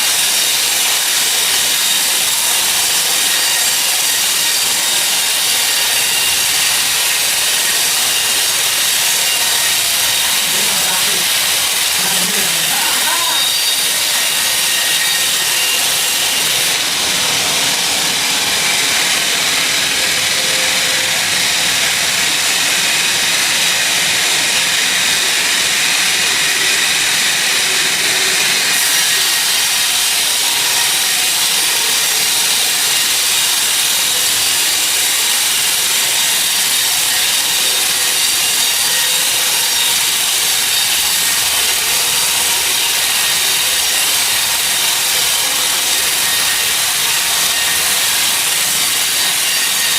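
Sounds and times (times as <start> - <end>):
sawmill saw cutting log: 0.0 - 49.9.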